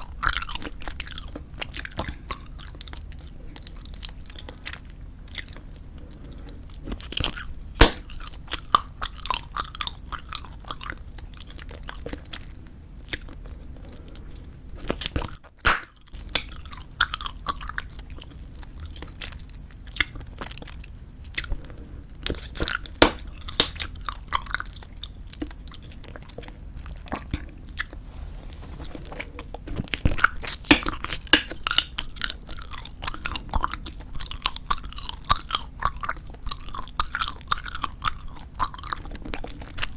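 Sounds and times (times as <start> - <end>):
bubblegum chewing: 0.0 - 39.9.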